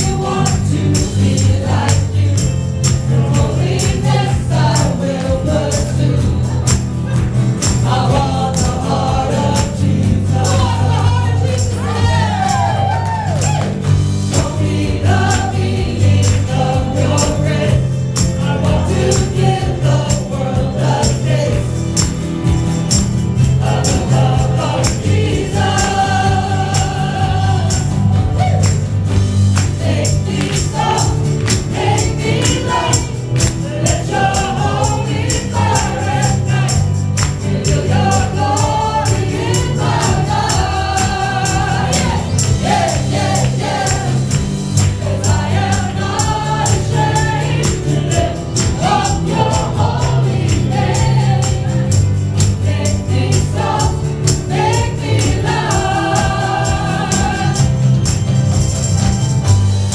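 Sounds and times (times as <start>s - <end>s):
group singing gospel: 0.0s - 59.2s
percussion beat: 0.0s - 59.9s
sustained bass line: 0.0s - 59.9s.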